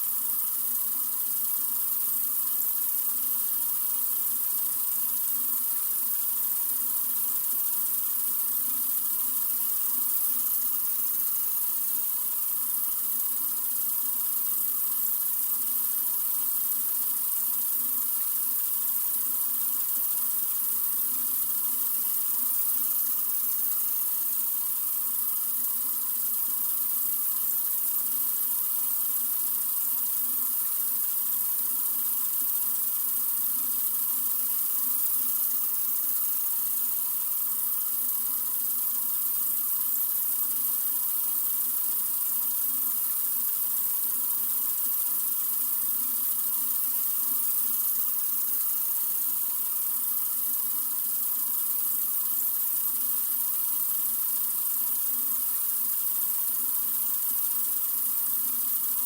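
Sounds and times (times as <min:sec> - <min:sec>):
sink faucet running: 0:00.1 - 0:59.0.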